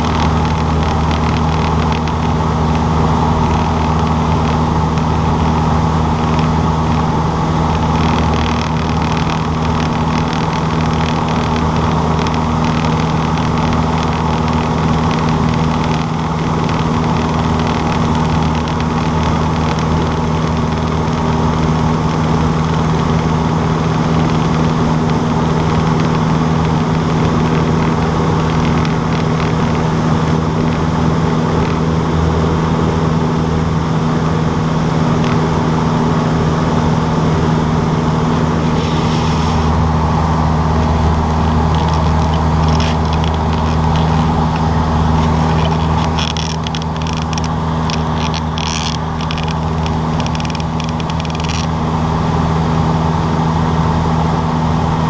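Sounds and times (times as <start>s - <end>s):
small plane engine humming: 0.0s - 55.0s.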